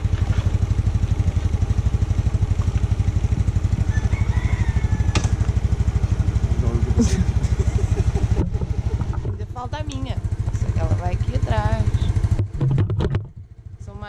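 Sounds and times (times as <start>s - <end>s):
scooter engine idling: 0.0s - 14.0s.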